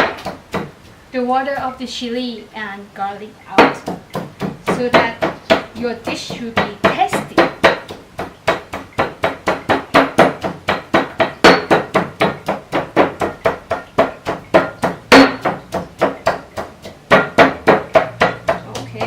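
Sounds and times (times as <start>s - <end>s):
pestle pounding in mortar: 0.0s - 0.9s, 3.5s - 19.0s.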